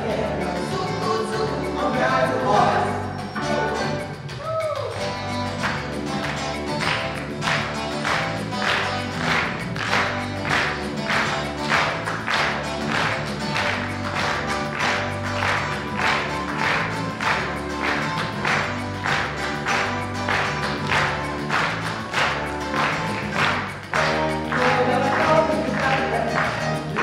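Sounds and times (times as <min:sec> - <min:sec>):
backing music with steady beat: 0:00.0 - 0:27.0
hands clapping in time: 0:00.0 - 0:27.0.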